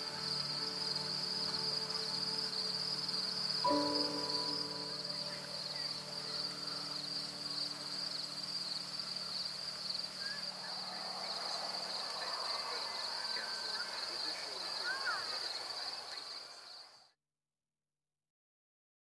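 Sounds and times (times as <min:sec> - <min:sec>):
insects trilling: 0:00.0 - 0:17.0
faint bird chirps: 0:00.0 - 0:17.1.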